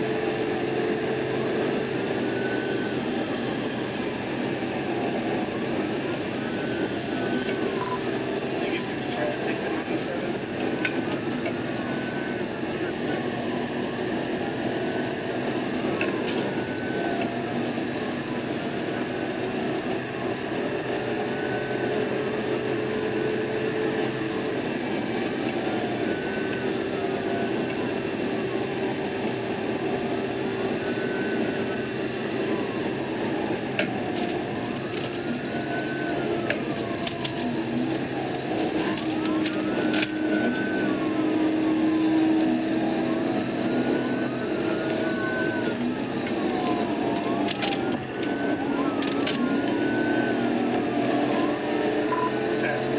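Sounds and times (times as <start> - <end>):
car engine and road noise: 0.0 - 52.9
police siren wailing: 0.0 - 52.9.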